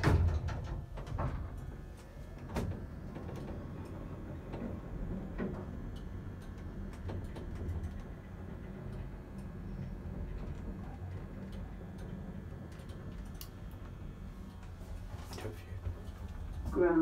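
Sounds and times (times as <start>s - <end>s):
lift car humming: 0.0s - 17.0s.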